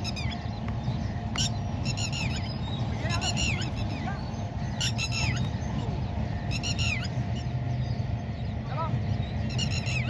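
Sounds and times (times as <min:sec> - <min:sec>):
low steady rumble: 0:00.0 - 0:10.0
sharp high bird calls: 0:00.0 - 0:10.0.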